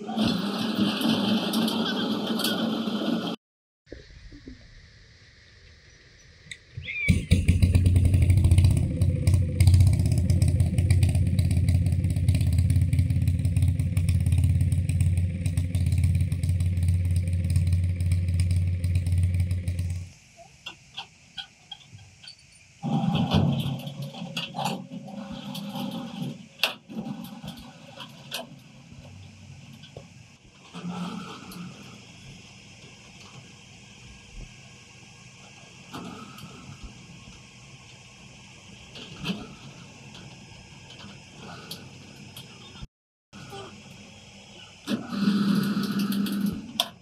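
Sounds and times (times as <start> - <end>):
engine humming: 0.0 - 47.0.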